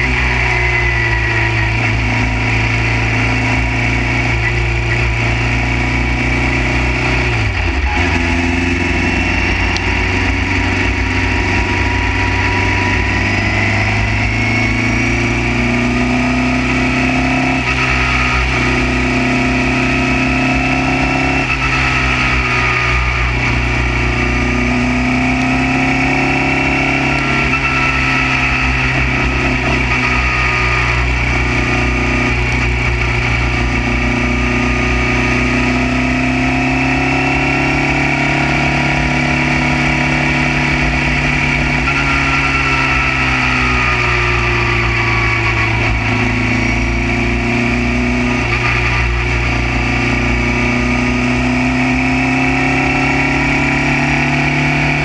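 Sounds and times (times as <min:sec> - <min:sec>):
racing car engine running hard: 0:00.0 - 0:55.0.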